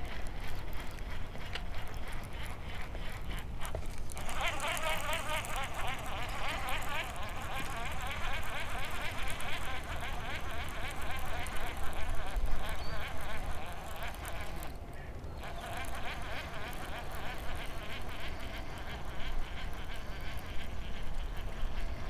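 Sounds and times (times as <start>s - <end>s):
fishing reel whirring: 0.0s - 22.0s.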